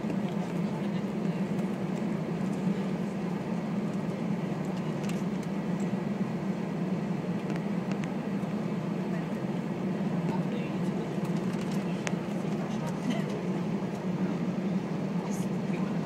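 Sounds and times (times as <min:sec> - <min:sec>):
aircraft engine hum: 0:00.0 - 0:16.0.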